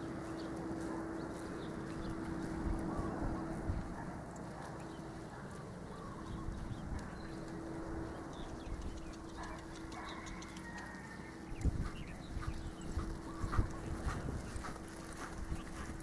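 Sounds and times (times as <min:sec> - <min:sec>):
horse hoofbeats on dirt: 0:00.0 - 0:16.0
steady low hum: 0:00.0 - 0:16.0.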